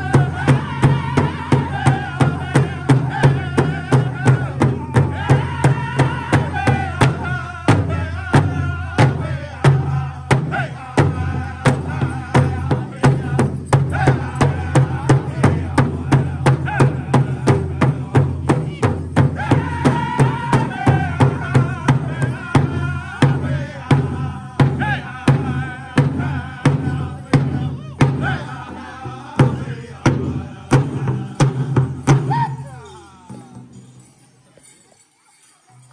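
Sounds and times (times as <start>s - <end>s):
large hand drum beating: 0.0s - 32.6s
men singing together: 0.0s - 33.7s.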